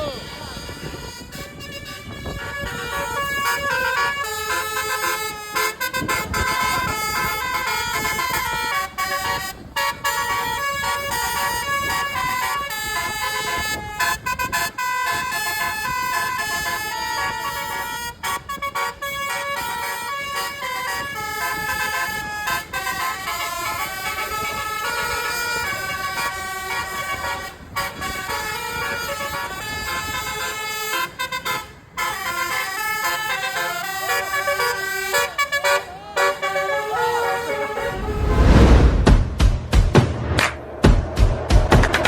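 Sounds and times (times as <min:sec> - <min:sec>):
multi-trumpet air horn tune: 0:00.0 - 0:38.7.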